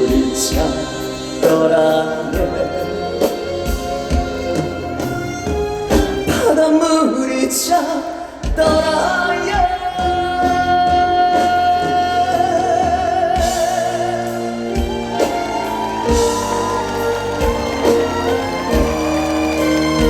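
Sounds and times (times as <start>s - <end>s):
man singing with vibrato: 0.0s - 5.4s, 6.2s - 20.0s
live band playing: 0.0s - 20.0s.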